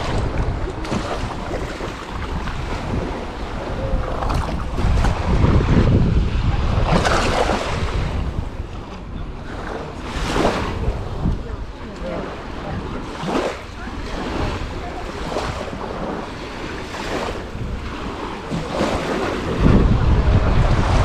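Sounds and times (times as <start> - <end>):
small sea waves: 0.0 - 21.0
wind buffeting microphone: 0.0 - 21.0.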